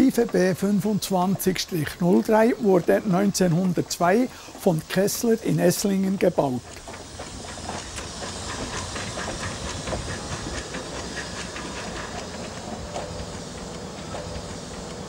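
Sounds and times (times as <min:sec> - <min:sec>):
locomotive running gear clatter: 0:00.0 - 0:15.0
steam hissing: 0:00.0 - 0:15.0.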